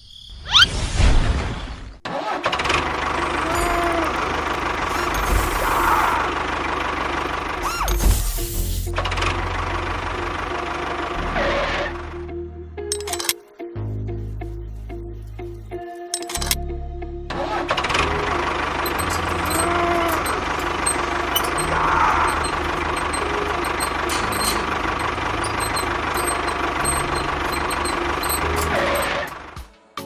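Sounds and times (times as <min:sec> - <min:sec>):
engine starting and running: 0:02.1 - 0:13.4, 0:16.1 - 0:16.7, 0:17.3 - 0:29.6.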